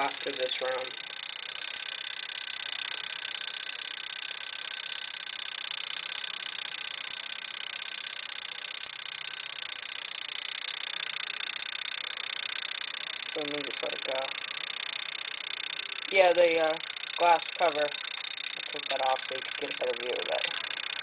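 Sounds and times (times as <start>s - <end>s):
fire alarm mechanism whirring: 0.0s - 21.0s.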